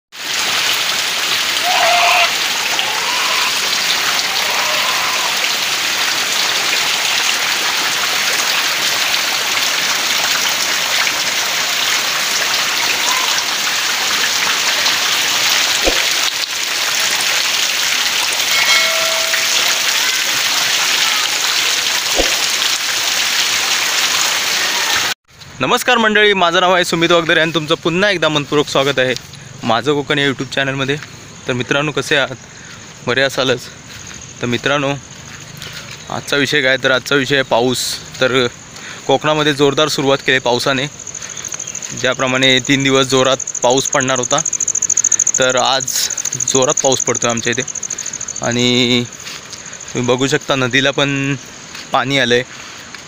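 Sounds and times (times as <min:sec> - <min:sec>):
heavy rain on trees and ground: 0:00.1 - 0:53.0.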